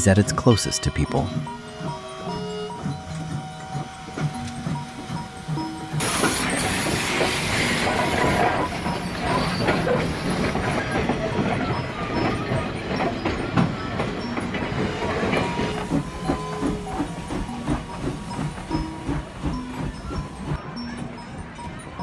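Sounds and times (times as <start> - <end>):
locomotive wheels clicking and knocking: 0.1 - 22.0
steam hissing: 1.6 - 20.6.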